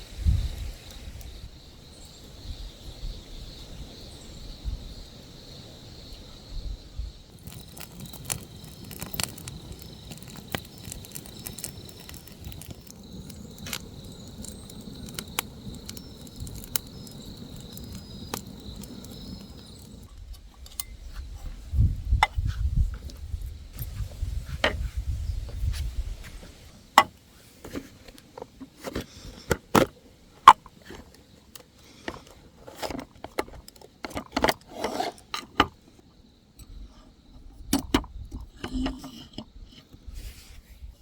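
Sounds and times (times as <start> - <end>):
insects trilling: 0.0 - 40.5.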